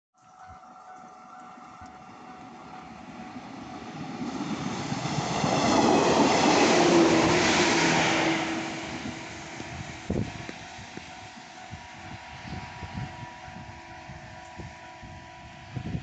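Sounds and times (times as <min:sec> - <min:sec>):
electric train passing: 0:00.2 - 0:16.0.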